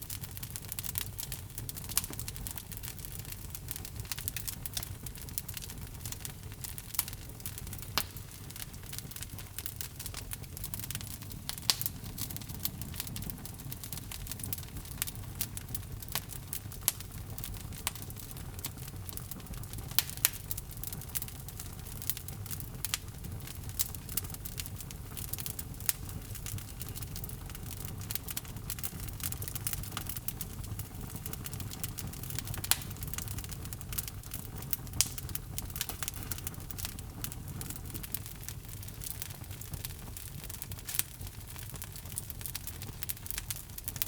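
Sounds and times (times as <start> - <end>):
burning wood crackling and popping: 0.0 - 44.0
low rumble of flame: 0.0 - 44.0.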